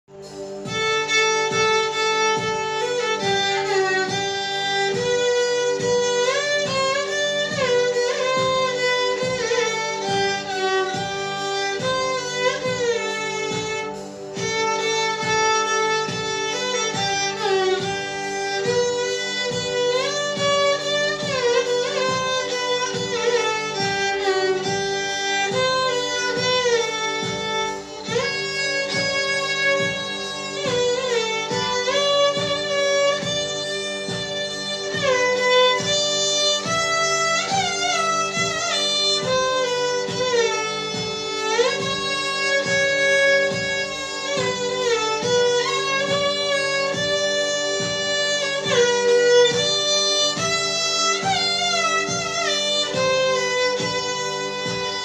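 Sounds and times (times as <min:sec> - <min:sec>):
low regular beat: 0:00.0 - 0:55.0
solo violin melody: 0:00.0 - 0:55.0
steady drone: 0:00.1 - 0:55.0.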